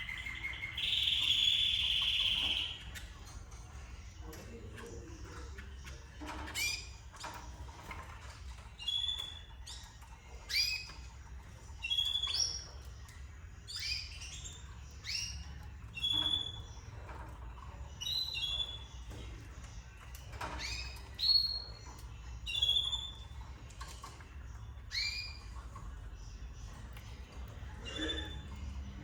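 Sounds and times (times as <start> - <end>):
canaries chirping: 0.0 - 29.0.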